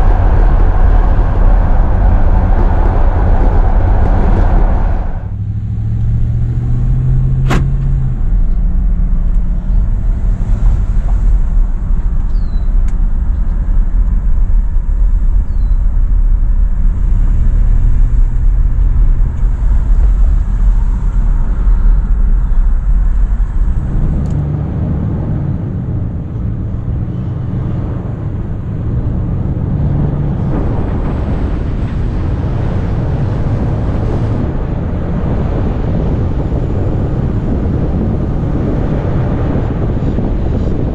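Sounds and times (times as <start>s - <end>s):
low road rumble: 0.0s - 40.9s
pickup truck engine driving: 0.0s - 40.9s.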